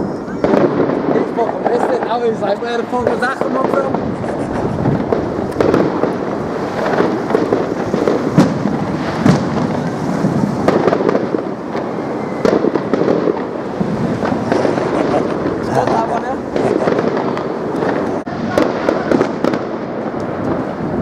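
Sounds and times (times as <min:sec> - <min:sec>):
fireworks bangs: 0:00.0 - 0:21.0
fireworks crackling and popping: 0:00.0 - 0:21.0.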